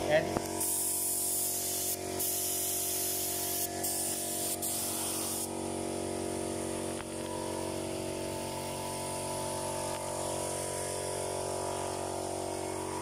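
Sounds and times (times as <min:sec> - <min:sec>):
paint spray gun hissing: 0:00.0 - 0:13.0
steady machine hum: 0:00.0 - 0:13.0.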